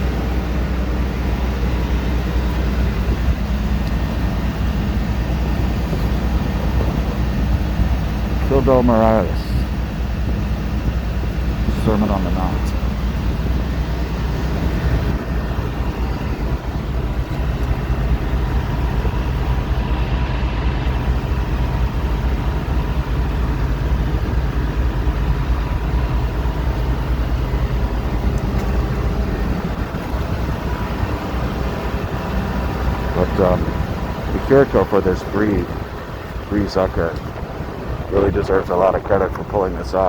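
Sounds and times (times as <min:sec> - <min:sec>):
city street traffic rumble: 0:00.0 - 0:40.0.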